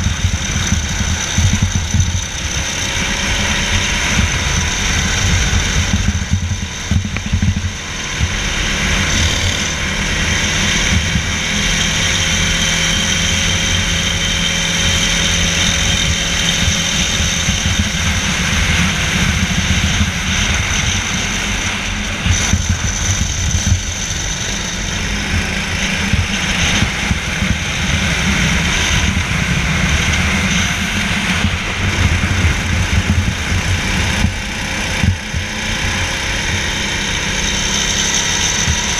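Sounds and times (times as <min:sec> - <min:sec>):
heavy low rumble: 0:00.0 - 0:37.2
kart engine running at speed: 0:00.0 - 0:38.9.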